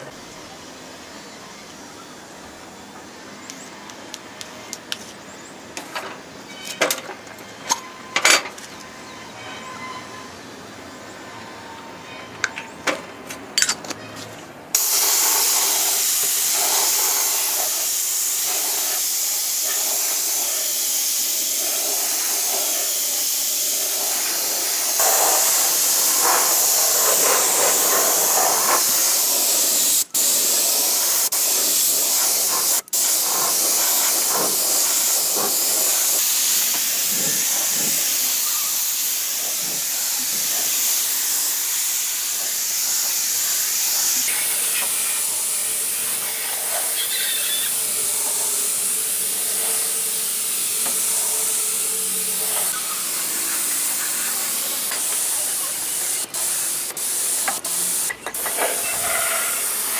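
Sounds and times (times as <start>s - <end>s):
steady spraying hiss: 0.0s - 7.7s, 14.7s - 59.9s.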